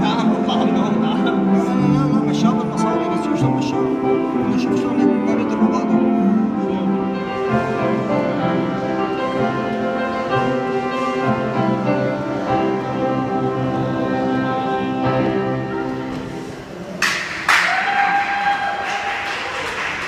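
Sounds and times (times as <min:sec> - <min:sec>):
orchestral music: 0:00.0 - 0:17.4.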